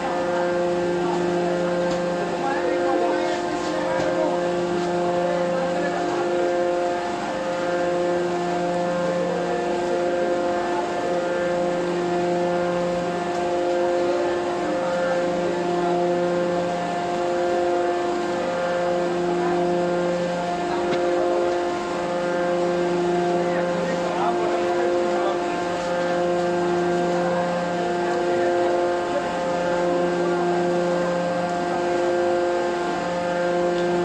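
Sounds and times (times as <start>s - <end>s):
hydraulic power unit humming: 0.0s - 34.0s.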